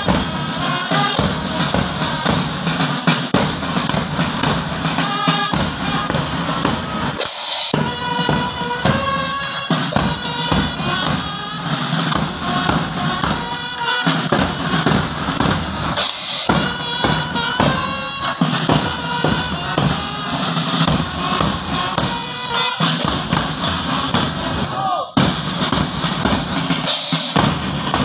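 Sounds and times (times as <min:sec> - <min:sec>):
wind instruments melody: 0:00.0 - 0:24.8
bass and snare drums: 0:00.0 - 0:28.0.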